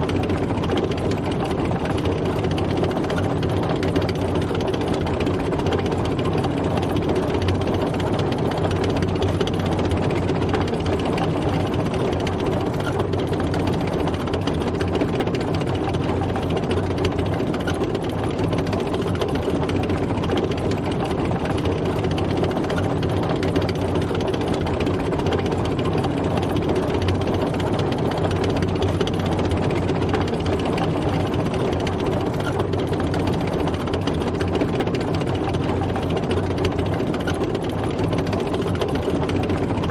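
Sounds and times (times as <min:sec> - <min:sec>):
tank engine rumbling: 0:00.0 - 0:39.9.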